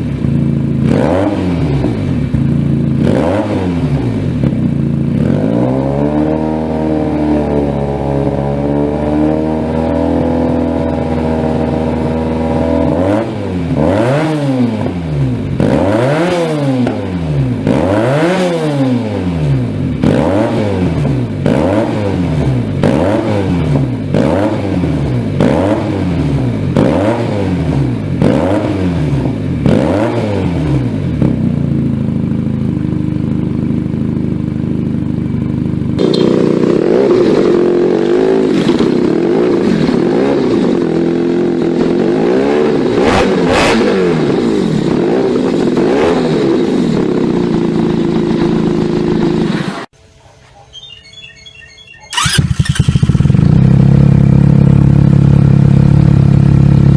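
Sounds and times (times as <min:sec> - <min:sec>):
motorcycle engine revving: 0:00.0 - 0:50.0, 0:50.9 - 0:56.9.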